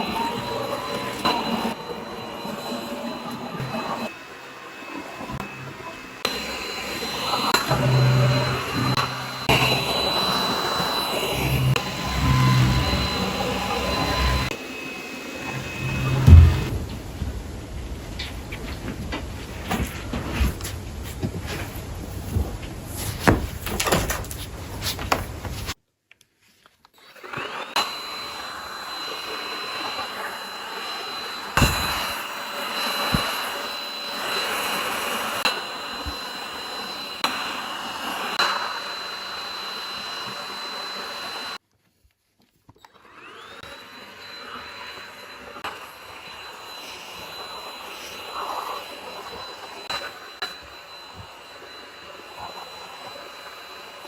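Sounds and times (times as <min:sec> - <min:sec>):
vacuum cleaner running: 0:00.0 - 0:23.9, 0:27.1 - 0:41.6, 0:42.8 - 0:54.0.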